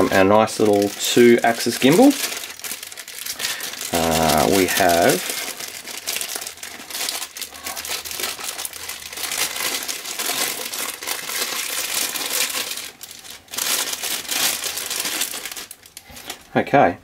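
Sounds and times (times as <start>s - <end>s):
plastic bag crinkling: 0.0s - 16.6s.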